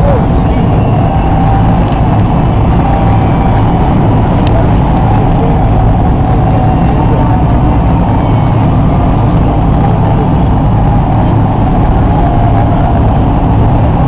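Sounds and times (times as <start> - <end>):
large vehicle engine idling: 0.0 - 14.0.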